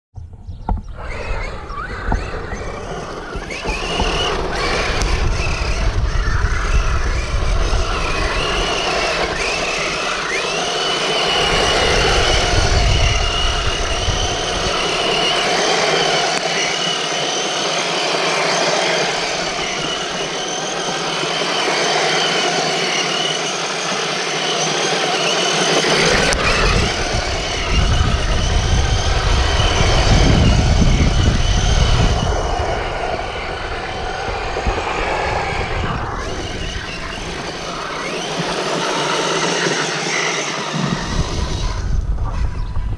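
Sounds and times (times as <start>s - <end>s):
wind buffeting microphone: 0.2s - 23.0s, 23.8s - 42.9s
drone motors whining: 0.2s - 42.9s.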